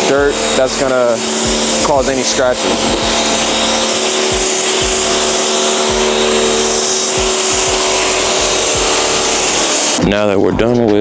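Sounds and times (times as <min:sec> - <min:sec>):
water spraying onto car: 0:00.0 - 0:10.0.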